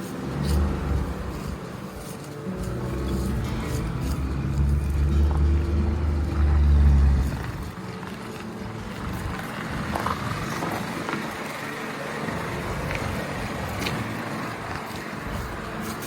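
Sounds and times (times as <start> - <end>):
car engine running: 0.2 - 16.0.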